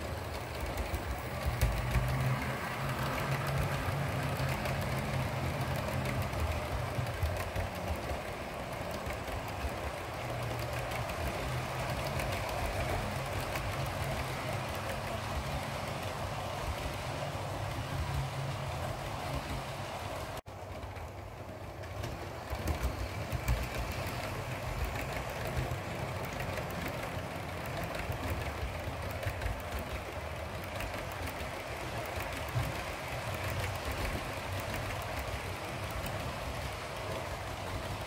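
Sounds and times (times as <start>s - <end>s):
model train wheels rumbling: 0.0s - 38.0s
wheels clicking over rail joints: 0.0s - 38.0s.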